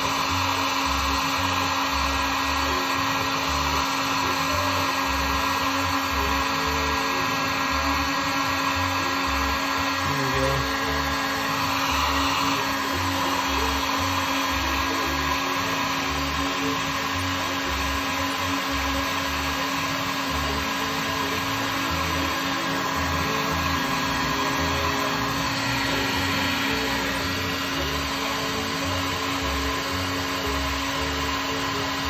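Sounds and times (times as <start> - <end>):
heat gun blowing: 0.0 - 32.0.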